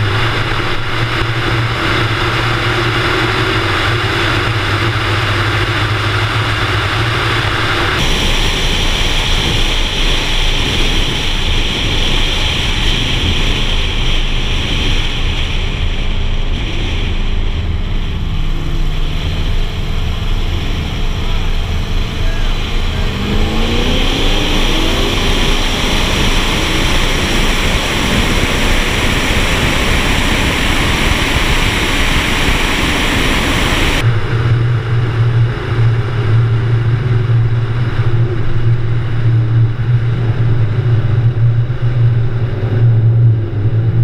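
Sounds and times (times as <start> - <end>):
low engine drone: 0.0 - 44.0
wind and road noise: 0.0 - 44.0.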